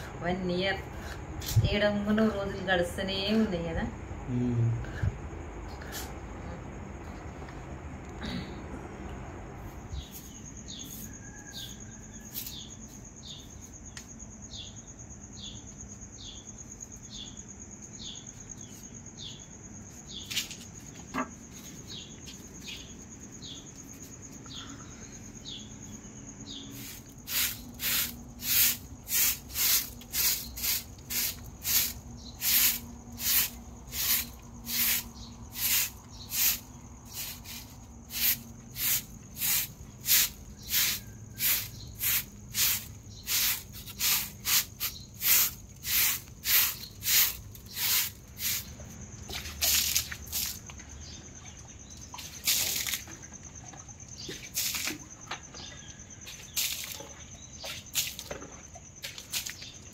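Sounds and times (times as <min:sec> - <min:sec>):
insects buzzing: 0:00.0 - 0:59.9
loud insect chirping: 0:09.3 - 0:59.9.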